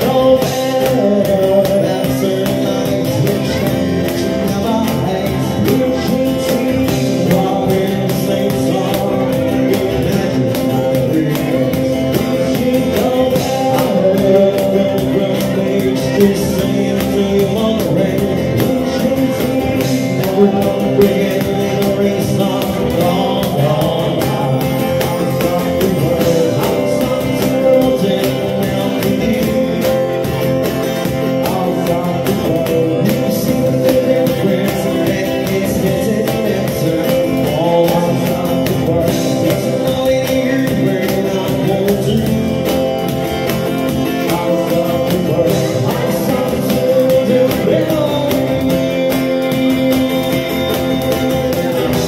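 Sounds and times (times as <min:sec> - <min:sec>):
acoustic guitars strumming: 0:00.0 - 0:52.0
man singing into microphone: 0:00.0 - 0:52.0.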